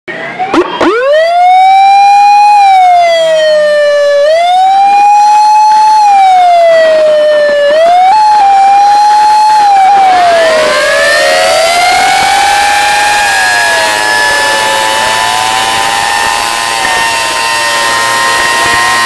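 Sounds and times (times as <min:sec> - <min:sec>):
fire truck siren wailing: 0:00.1 - 0:19.0.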